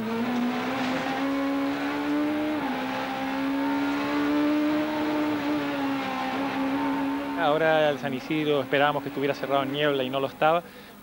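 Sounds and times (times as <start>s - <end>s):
rally car engine revving high: 0.0s - 10.5s.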